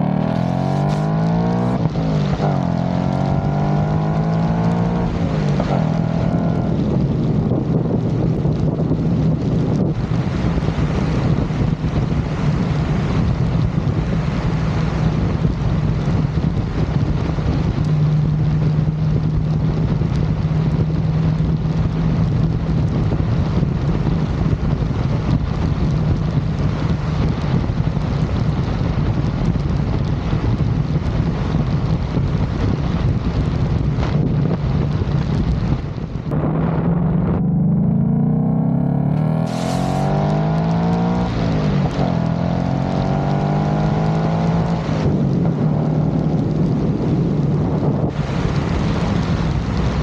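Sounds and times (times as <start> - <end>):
car engine low drone: 0.0 - 50.0
wind buffeting microphone: 0.0 - 50.0.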